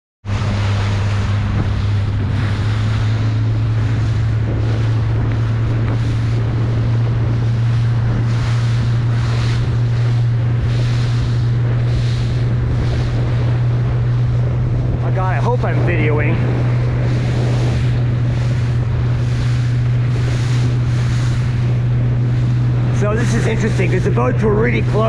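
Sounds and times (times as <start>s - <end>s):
motorboat engine hum: 0.2s - 25.0s
water splashing against hull: 0.2s - 25.0s
wind buffeting microphone: 0.2s - 25.0s.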